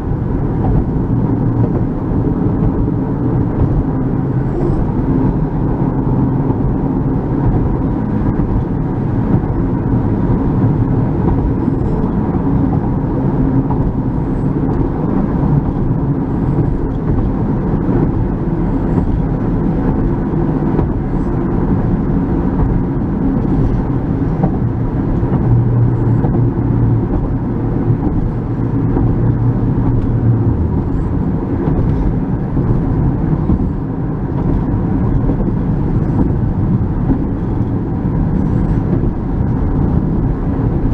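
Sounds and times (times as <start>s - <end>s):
car driving heard from inside: 0.0s - 40.9s
low hum: 0.0s - 40.9s.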